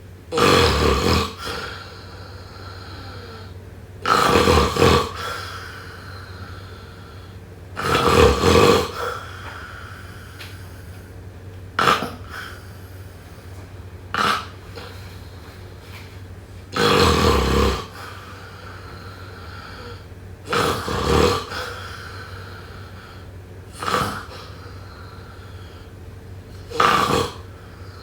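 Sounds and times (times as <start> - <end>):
person snoring: 0.3 - 11.0, 11.8 - 13.5, 14.1 - 15.3, 16.7 - 25.9, 26.5 - 28.0.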